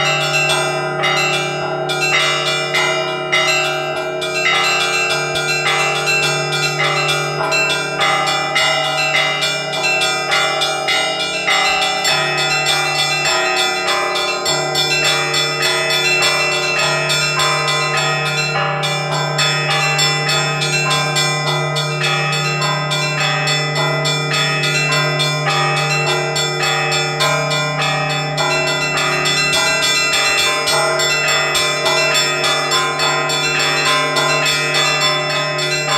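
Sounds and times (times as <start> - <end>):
large bell humming: 0.0 - 35.9
small bells pealing: 0.0 - 35.9.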